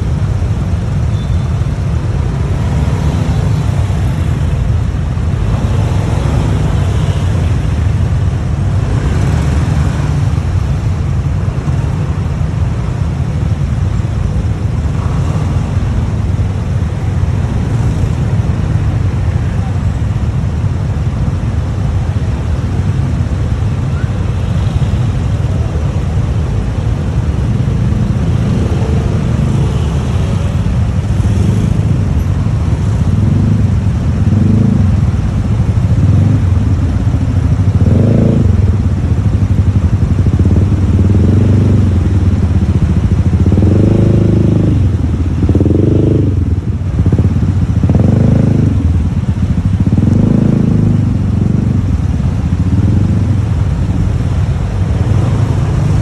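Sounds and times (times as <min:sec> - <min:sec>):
motorbike engine: 0:00.0 - 0:56.0.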